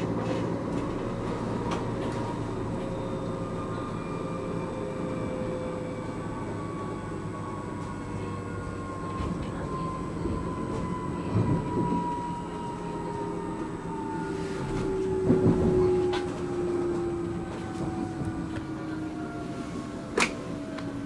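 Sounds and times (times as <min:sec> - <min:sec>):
low rumble of train: 0:00.0 - 0:21.0.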